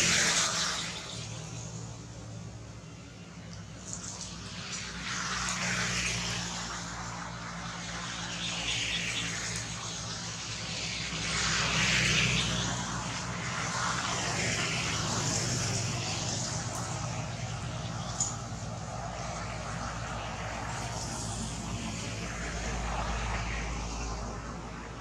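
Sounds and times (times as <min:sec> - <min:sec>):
broad noise: 0:00.0 - 0:25.0
low engine drone: 0:00.0 - 0:25.0.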